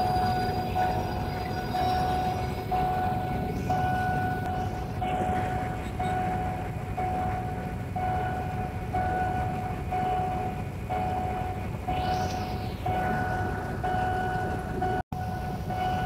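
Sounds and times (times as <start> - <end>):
level crossing alarm tone: 0.0 - 16.0
train rumbling: 0.0 - 16.0.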